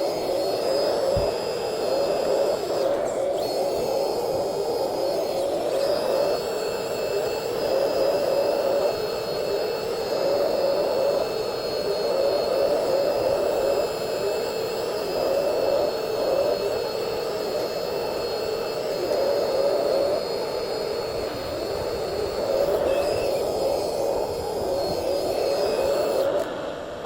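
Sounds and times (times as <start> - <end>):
hydraulic pumps whining: 0.0 - 27.0.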